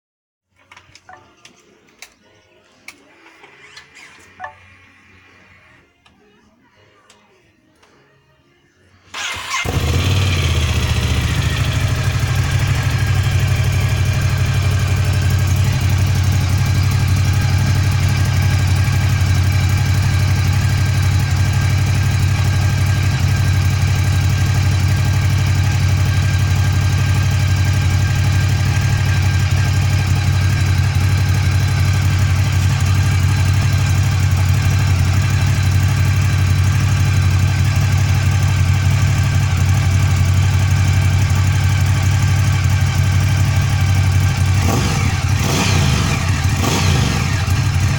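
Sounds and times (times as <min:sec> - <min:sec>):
motorcycle engine starting and idling: 0:09.1 - 0:47.9.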